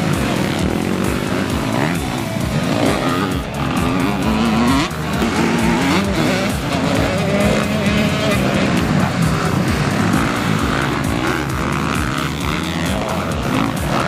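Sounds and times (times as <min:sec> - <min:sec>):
motocross bike engines revving: 0:00.0 - 0:14.0
music with steady beat: 0:00.0 - 0:14.0.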